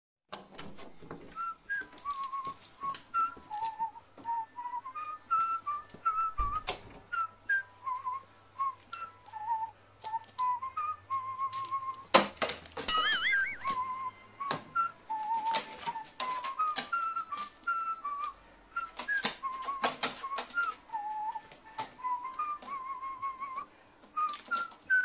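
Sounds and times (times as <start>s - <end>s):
person whistling a tune: 1.3s - 12.1s, 12.9s - 25.0s.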